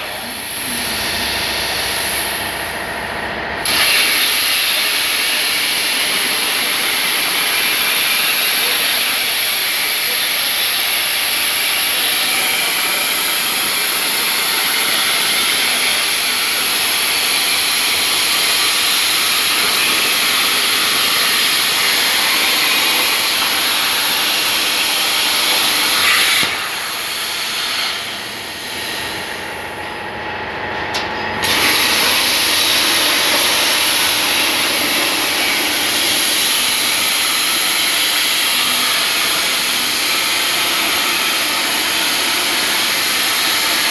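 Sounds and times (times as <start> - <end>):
plasma cutter hissing: 0.0 - 3.0, 3.6 - 29.8, 31.4 - 43.9.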